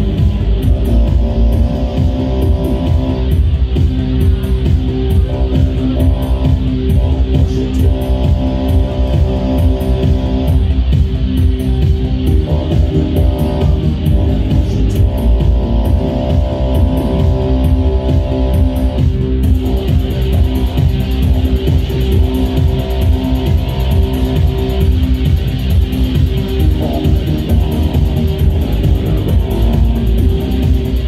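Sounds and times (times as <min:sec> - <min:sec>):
live electronic music through pa: 0:00.0 - 0:31.0.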